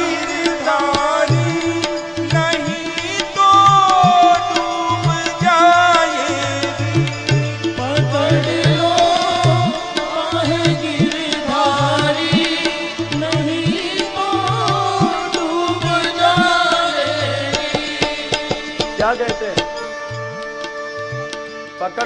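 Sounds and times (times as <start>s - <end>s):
tabla playing steady rhythm: 0.0s - 22.0s.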